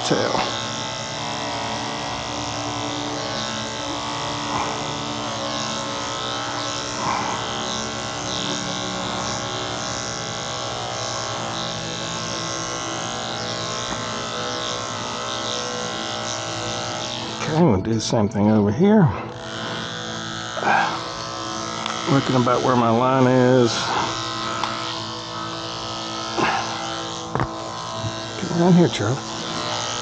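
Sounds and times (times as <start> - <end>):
electric clippers humming: 0.0 - 30.0.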